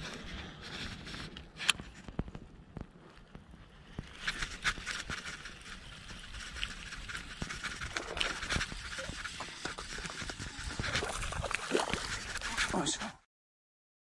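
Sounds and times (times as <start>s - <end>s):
wind rumbling on microphone: 0.0s - 12.7s.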